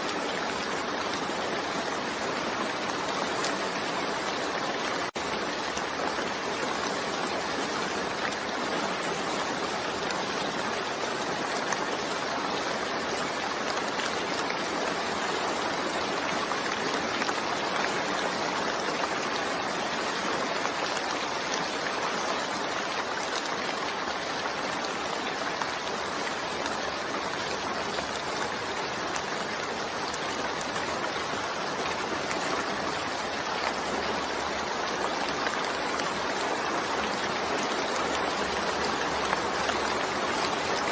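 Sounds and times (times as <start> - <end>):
steady dense rainfall: 0.0 - 40.9.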